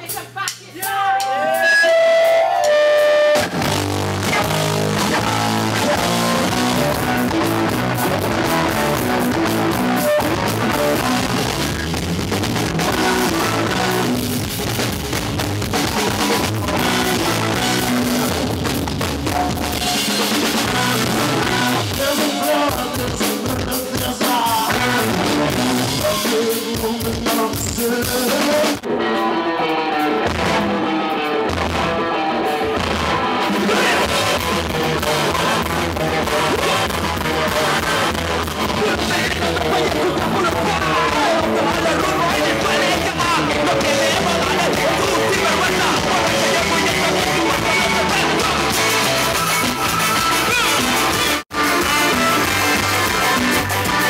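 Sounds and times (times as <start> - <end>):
bass: 0.0 - 54.0
drum kit: 0.0 - 54.0
electric guitar: 1.1 - 54.0.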